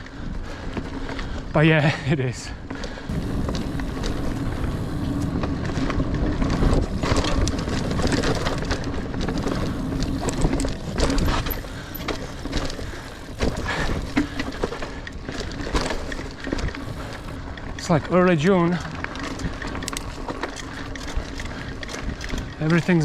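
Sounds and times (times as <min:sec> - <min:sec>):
bike tyre rumble: 0:00.0 - 0:23.0
bike rattles and knocks: 0:00.1 - 0:23.0.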